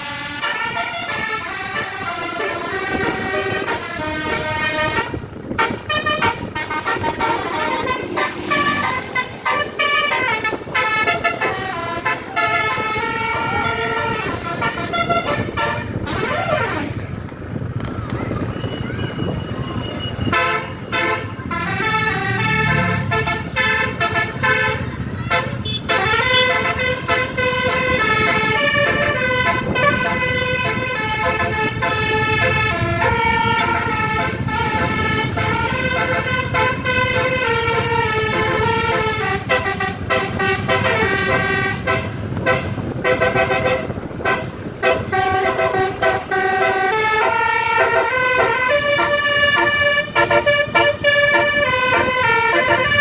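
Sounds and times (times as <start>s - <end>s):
multi-tone air horn tune: 0.0s - 17.0s, 20.0s - 53.0s
bus engine: 0.0s - 53.0s
road noise: 0.0s - 53.0s.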